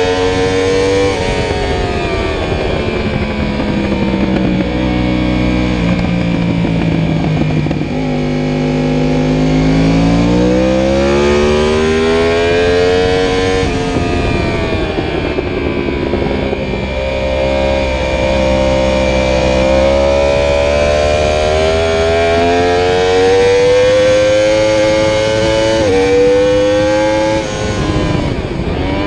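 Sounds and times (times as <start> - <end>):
motorcycle engine accelerating: 0.0 - 29.0
wind rush on microphone: 0.0 - 29.0.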